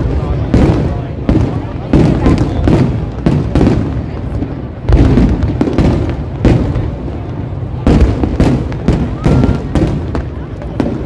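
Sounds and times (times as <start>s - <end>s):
fireworks bursting with sharp bangs: 0.0s - 11.0s
low rumble from fireworks: 0.0s - 11.0s.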